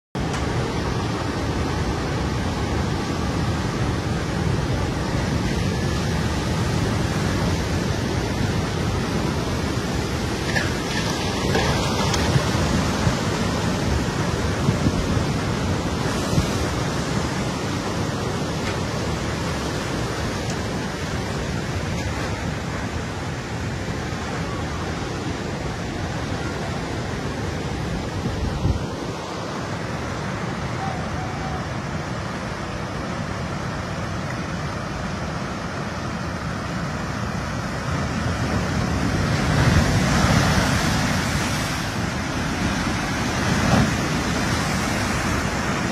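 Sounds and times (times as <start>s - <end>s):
big wave breaking: 0.2s - 45.9s
sea waves rushing over seawall: 0.2s - 45.9s.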